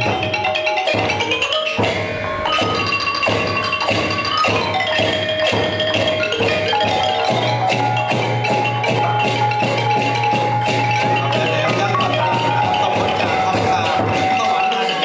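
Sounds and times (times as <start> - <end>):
steady percussion strokes: 0.0 - 15.0
xylophone and gong circle melody: 0.0 - 15.0.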